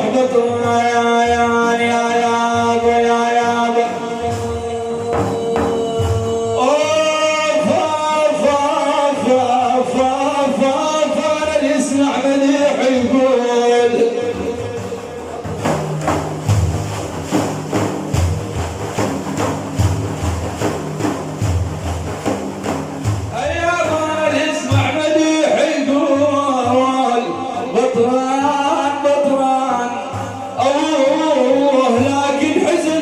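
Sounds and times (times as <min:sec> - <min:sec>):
frame drums beating: 0:00.0 - 0:33.0.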